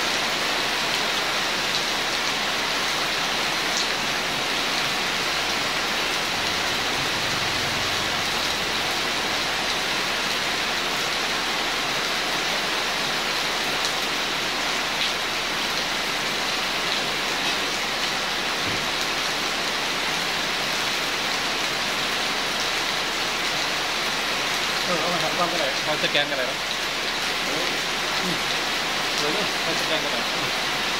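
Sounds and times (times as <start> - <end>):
steady rain: 0.0 - 30.9.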